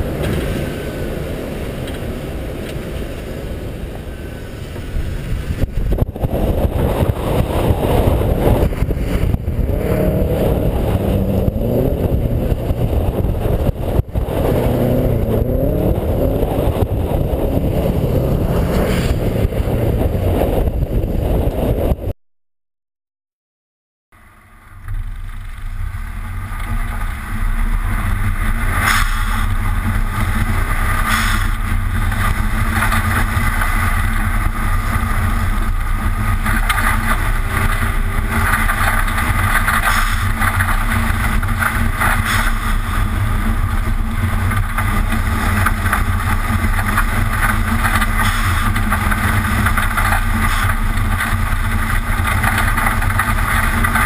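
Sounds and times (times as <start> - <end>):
loud road noise: 0.0 - 22.1, 24.2 - 54.0
wind buffeting camera: 0.0 - 22.1, 24.7 - 54.0
car engine revving: 4.7 - 22.0, 24.7 - 54.0.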